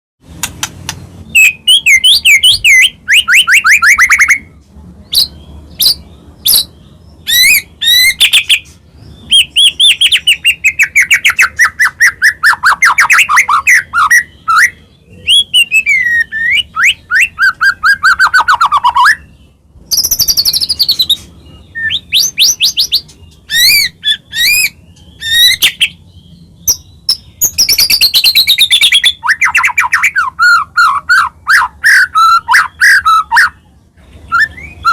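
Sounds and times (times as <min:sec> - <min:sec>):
bird singing rapid trills: 0:00.4 - 0:04.5, 0:05.1 - 0:34.9.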